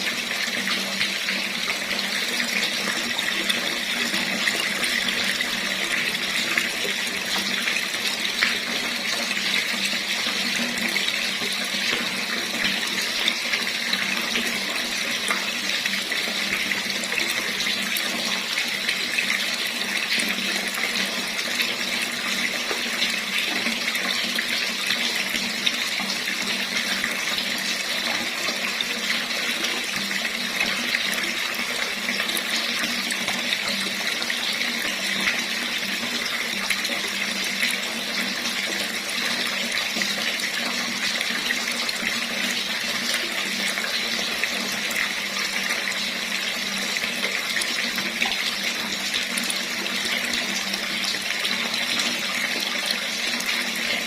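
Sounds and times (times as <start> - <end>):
tap water splashing into basin: 0.0 - 54.0.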